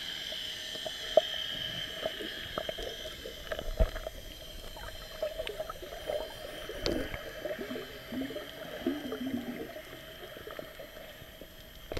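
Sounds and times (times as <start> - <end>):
underwater gurgling and bubbling: 0.0 - 11.9.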